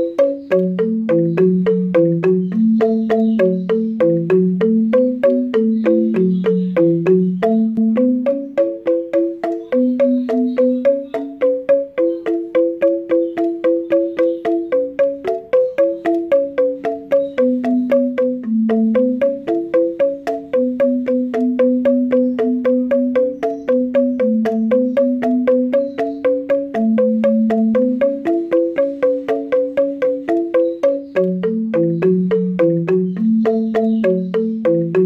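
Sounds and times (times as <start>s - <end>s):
melody of held notes: 0.0s - 35.0s.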